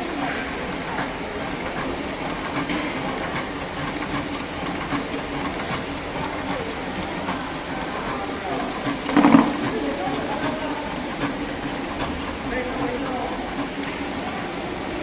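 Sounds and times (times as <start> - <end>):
sharp clicks of machine cutting: 0.0 - 15.0
tube cutting machine humming: 0.0 - 15.0.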